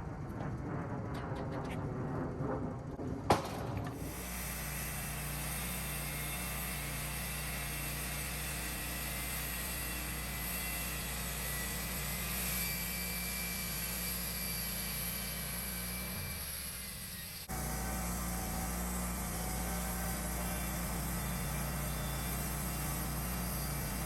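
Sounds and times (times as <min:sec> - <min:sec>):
band sawmill engine hum: 0:00.0 - 0:24.0
faint high whine: 0:04.6 - 0:24.0.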